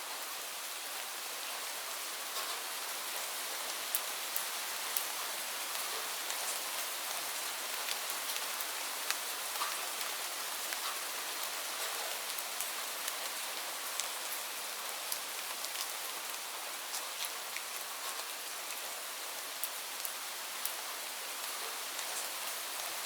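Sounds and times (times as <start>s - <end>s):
steady rain hiss: 0.0s - 23.0s
raindrops tapping a surface: 2.3s - 18.9s, 19.5s - 23.0s.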